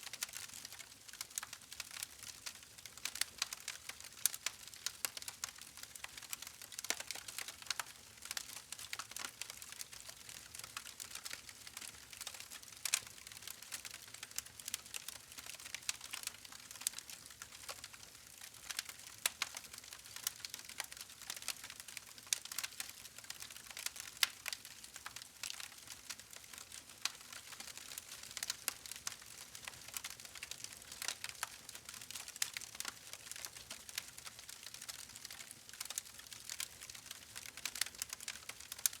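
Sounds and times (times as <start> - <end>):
wood fire crackling and popping: 0.1 - 39.0.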